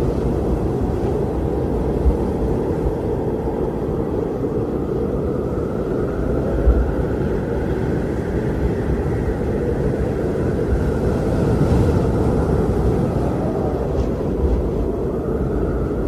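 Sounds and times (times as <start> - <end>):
strong wind gusting: 0.0 - 16.0.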